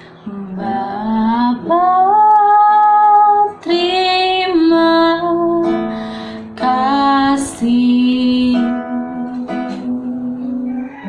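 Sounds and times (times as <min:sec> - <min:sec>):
guitar: 0:00.0 - 0:11.0
woman singing worship song: 0:00.0 - 0:11.0.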